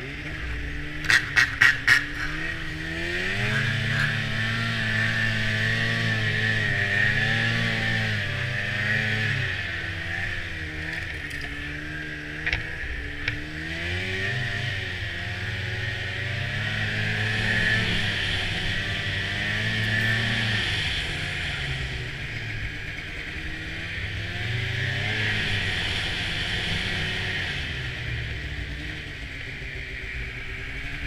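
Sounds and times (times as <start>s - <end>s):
snowmobile engine revving: 0.0s - 31.0s.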